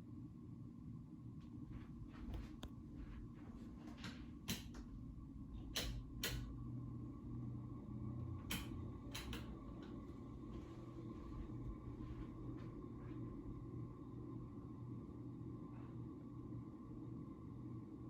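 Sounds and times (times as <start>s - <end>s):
ceiling fan humming: 0.0s - 18.0s.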